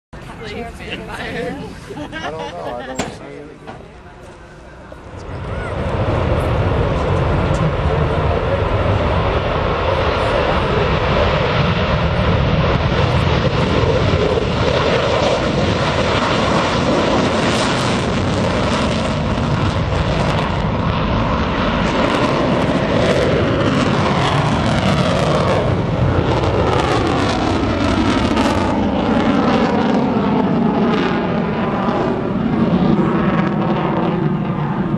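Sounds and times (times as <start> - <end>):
jet engine roar: 0.2 - 34.9.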